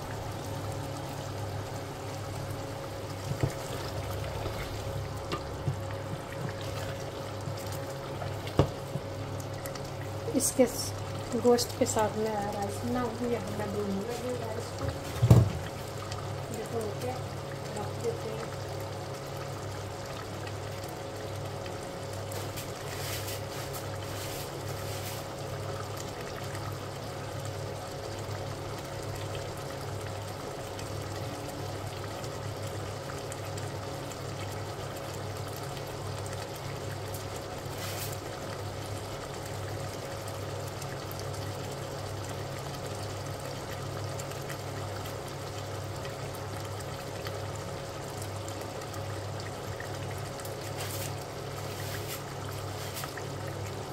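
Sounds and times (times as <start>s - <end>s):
pot bubbling and sizzling: 0.0s - 53.9s.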